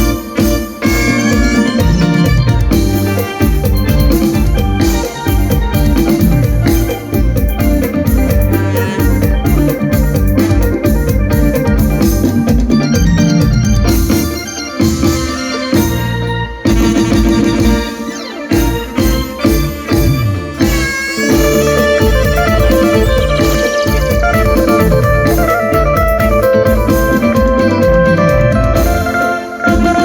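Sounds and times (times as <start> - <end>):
bass: 0.0 - 30.0
driving drum beat: 0.0 - 30.0
organ-like melody: 0.0 - 30.0.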